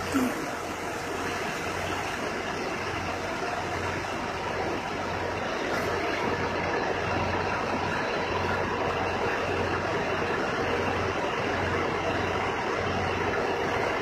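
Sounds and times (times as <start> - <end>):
constant rushing noise: 0.0 - 14.0
truck engine idling: 0.0 - 14.0.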